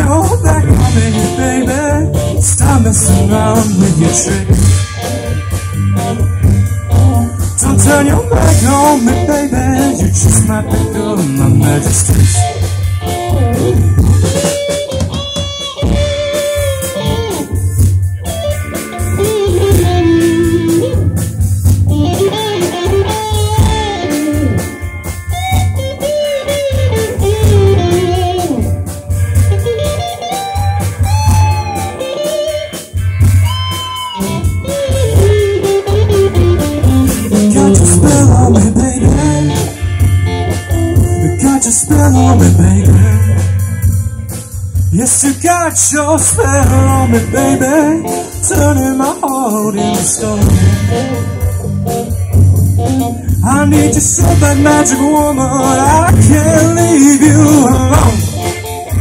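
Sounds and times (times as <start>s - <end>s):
bass guitar: 0.0s - 59.0s
bending melody line: 0.0s - 59.0s
drum kit: 0.0s - 59.0s
electric guitars: 0.0s - 59.0s.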